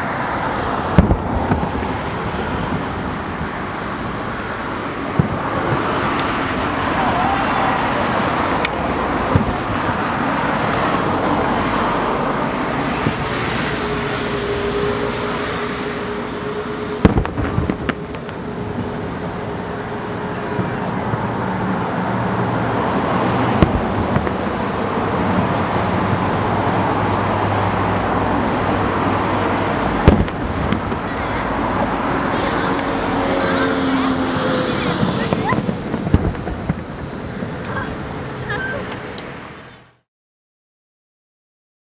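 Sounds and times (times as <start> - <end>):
distant fireworks bangs: 0.0 - 39.2
road traffic noise: 0.0 - 40.1.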